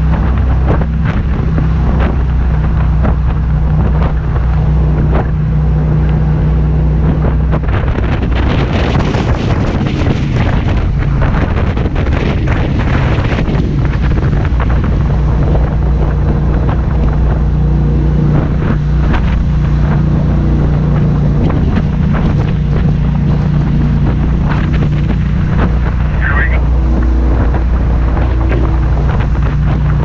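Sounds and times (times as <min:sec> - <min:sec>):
boat engine running: 0:00.0 - 0:30.0
wind buffeting microphone: 0:00.0 - 0:30.0.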